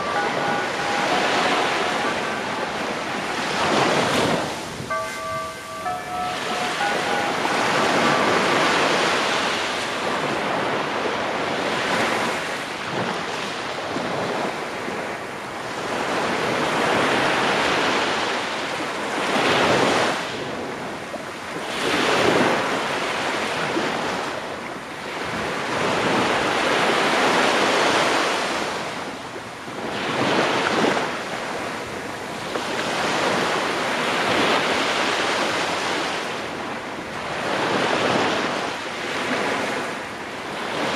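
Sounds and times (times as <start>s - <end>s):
small waves washing on sand: 0.0s - 40.9s.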